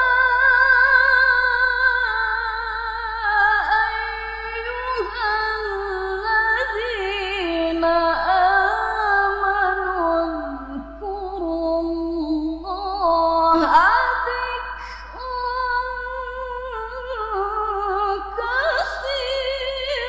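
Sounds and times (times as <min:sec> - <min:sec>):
woman chanting: 0:00.0 - 0:20.0.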